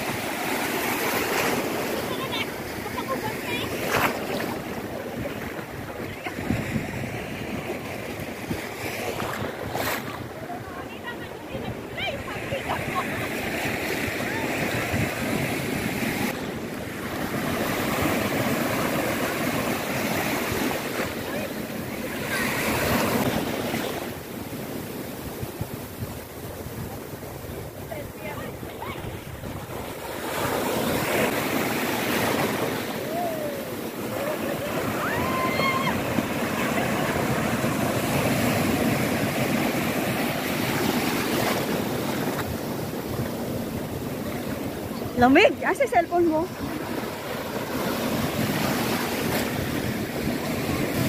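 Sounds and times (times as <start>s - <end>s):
ocean surf breaking: 0.0s - 51.0s
wind buffeting microphone: 1.4s - 23.7s, 25.2s - 51.0s.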